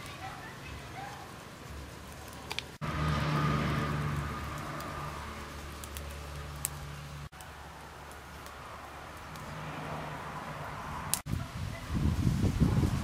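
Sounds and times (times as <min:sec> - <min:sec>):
charcoal fire crackling: 0:00.0 - 0:13.0.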